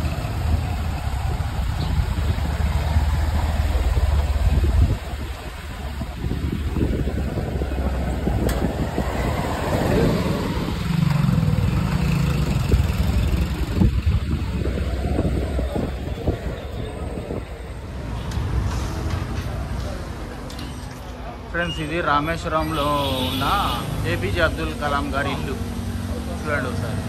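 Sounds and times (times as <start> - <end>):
street traffic noise: 0.0 - 27.0.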